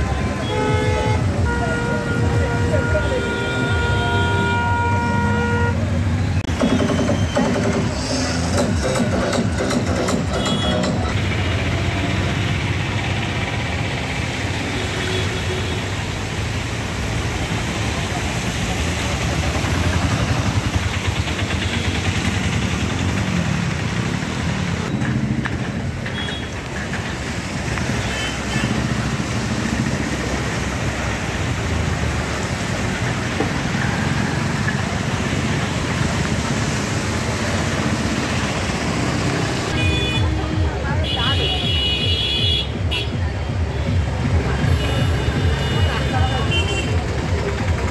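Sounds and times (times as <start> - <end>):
heavy rain: 0.0 - 47.9
running floodwater: 0.0 - 47.9
tyres pushing through water: 0.0 - 47.9.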